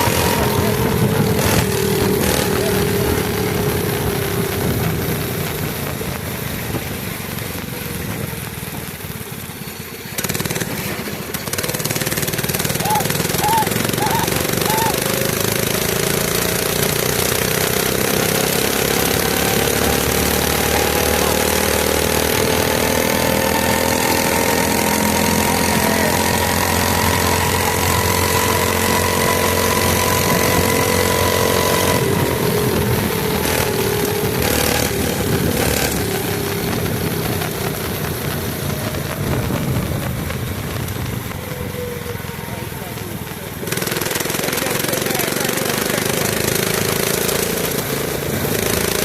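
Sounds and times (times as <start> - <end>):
small engine running: 0.0 - 49.0.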